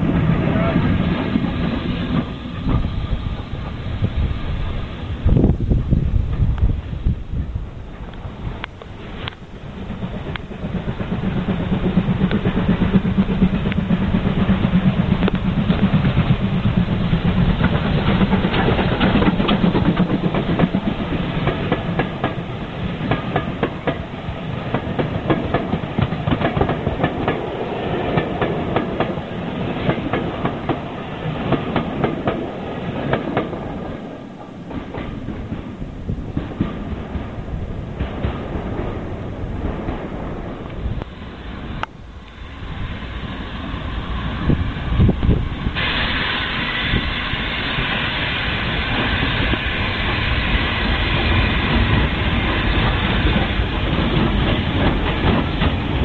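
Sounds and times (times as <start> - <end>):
train wheels clicking on rails: 0.0 - 56.0.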